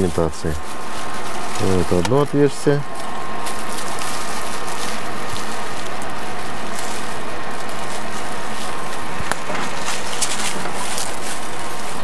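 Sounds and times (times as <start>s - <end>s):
thin steady whine tones: 0.0s - 12.0s
ventilation fans humming: 0.0s - 12.0s.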